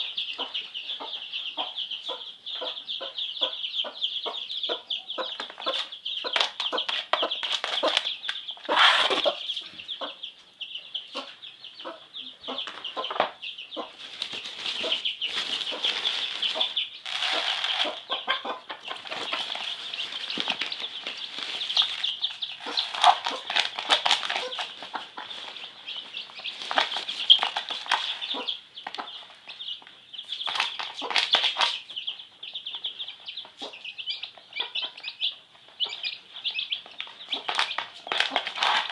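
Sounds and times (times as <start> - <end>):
chicken clucking: 0.0 - 38.9
chicks peeping: 0.0 - 38.9.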